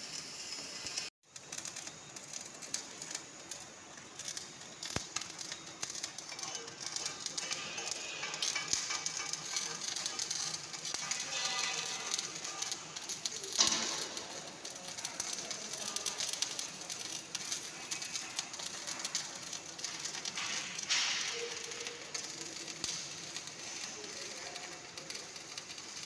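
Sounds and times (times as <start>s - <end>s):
welding arc crackling: 0.0s - 26.0s.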